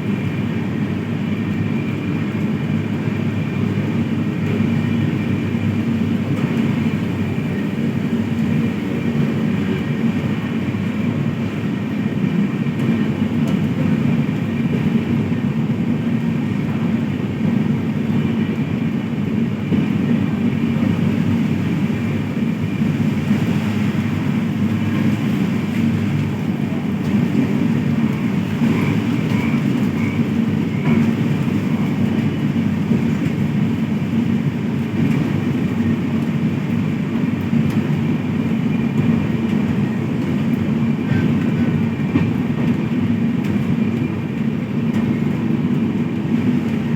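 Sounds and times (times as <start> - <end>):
passenger train rumbling: 0.0 - 46.9.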